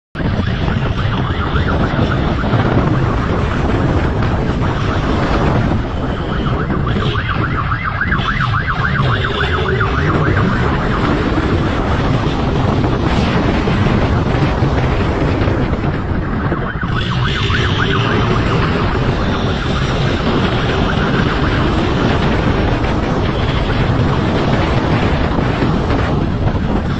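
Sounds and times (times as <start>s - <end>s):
road and wind noise: 0.1s - 26.9s
siren warbling: 0.2s - 25.8s.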